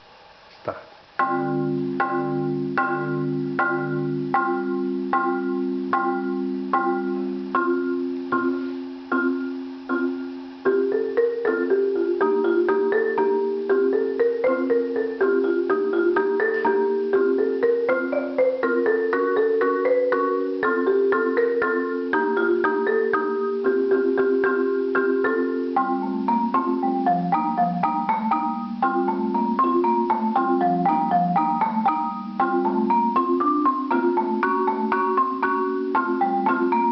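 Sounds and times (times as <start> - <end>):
solo marimba: 1.2 - 36.9.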